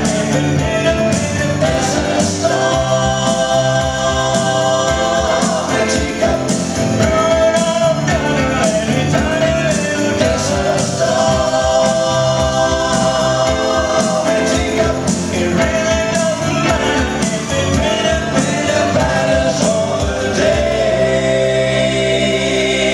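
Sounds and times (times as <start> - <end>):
bass guitar: 0.0 - 22.9
keyboards: 0.0 - 22.9
men singing: 0.0 - 22.9.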